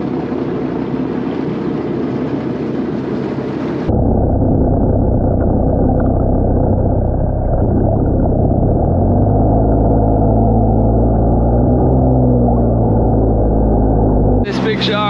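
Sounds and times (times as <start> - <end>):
muffled underwater engine drone: 0.0 - 15.0.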